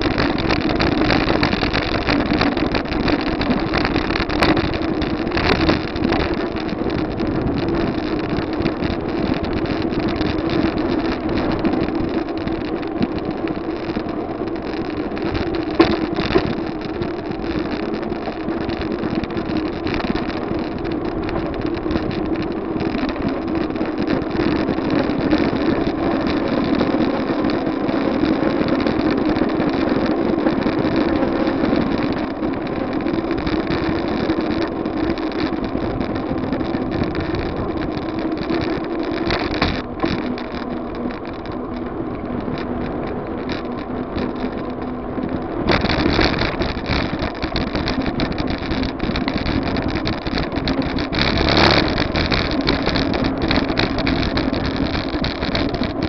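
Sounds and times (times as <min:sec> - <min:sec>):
bike knocks and rattles: 0:00.0 - 0:56.0
wind buffeting microphone: 0:00.0 - 0:56.0.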